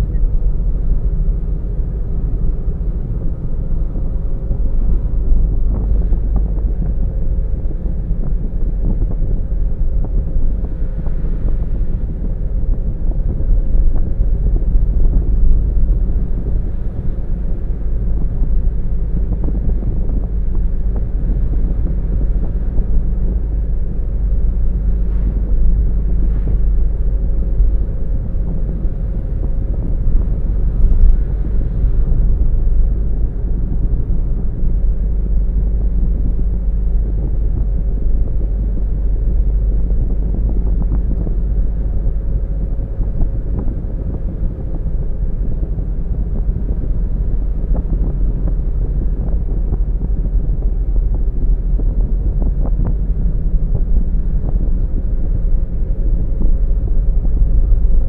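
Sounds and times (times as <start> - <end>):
car driving on road: 0.0 - 58.0.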